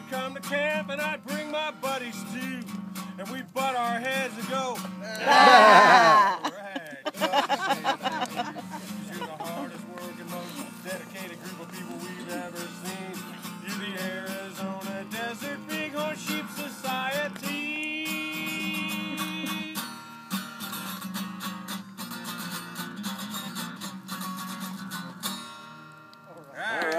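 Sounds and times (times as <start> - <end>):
acoustic guitar strumming: 0.0 - 26.3.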